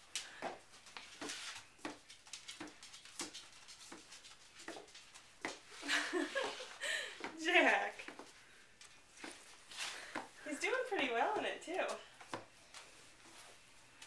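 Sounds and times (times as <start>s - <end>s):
toddler shuffling in oversized shoes: 0.0s - 14.0s.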